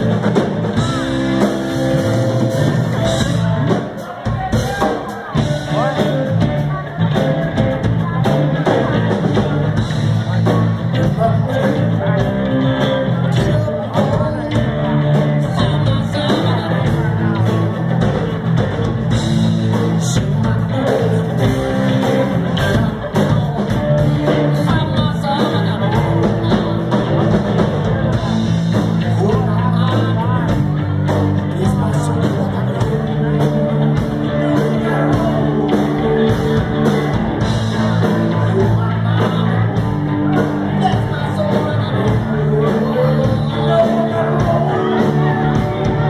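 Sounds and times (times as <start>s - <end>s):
man singing: 0.0s - 18.4s, 19.1s - 46.0s
drums: 0.0s - 46.0s
electric bass: 0.0s - 46.0s
electric guitar: 0.0s - 46.0s.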